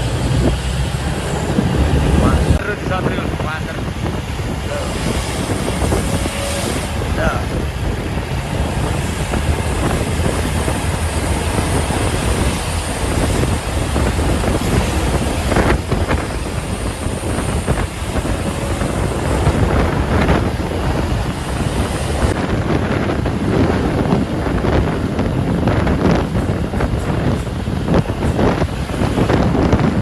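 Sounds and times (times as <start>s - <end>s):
truck engine rumble: 0.0s - 30.0s
vehicles passing: 0.0s - 30.0s
wind buffeting microphone: 0.0s - 30.0s.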